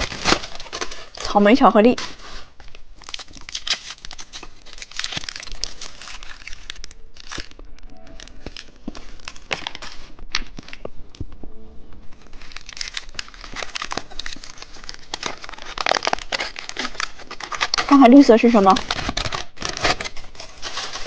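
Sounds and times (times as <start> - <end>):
candy wrappers crinkling: 0.0 - 11.0, 12.1 - 21.0.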